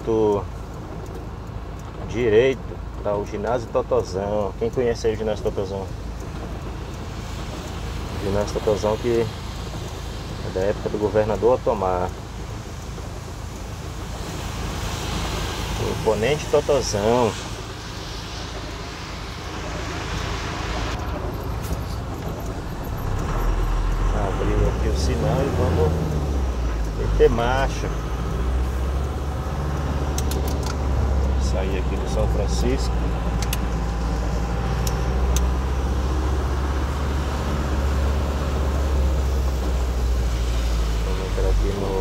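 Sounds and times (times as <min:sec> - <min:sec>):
low engine rumble: 0:00.0 - 0:42.0
tyres hissing on wet road: 0:00.0 - 0:42.0.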